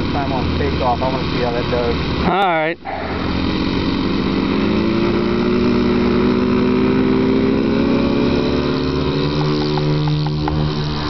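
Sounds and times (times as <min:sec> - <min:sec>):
model plane engines at high power: 0:00.0 - 0:11.0.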